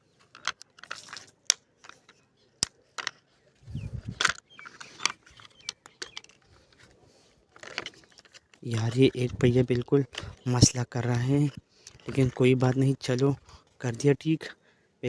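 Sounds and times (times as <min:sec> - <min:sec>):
rustling handling noise: 0:00.0 - 0:14.4
plastic toy parts clicking: 0:00.2 - 0:06.9, 0:07.5 - 0:13.4.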